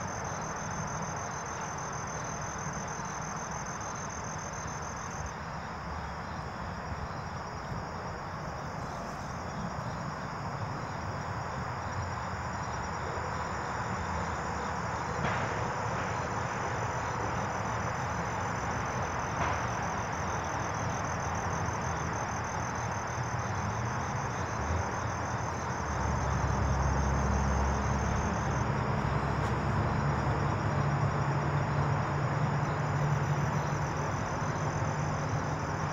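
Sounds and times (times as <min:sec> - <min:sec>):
crickets trilling: 0:00.0 - 0:35.9.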